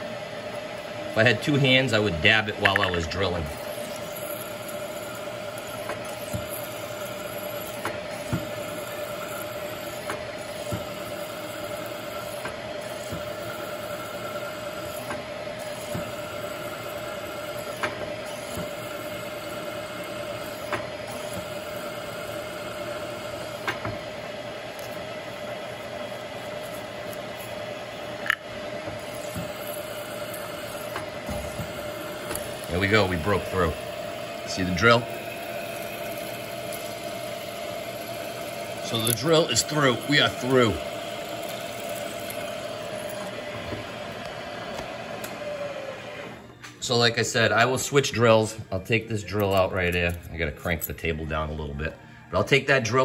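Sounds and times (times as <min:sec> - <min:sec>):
milling machine spindle humming: 0:00.0 - 0:50.8.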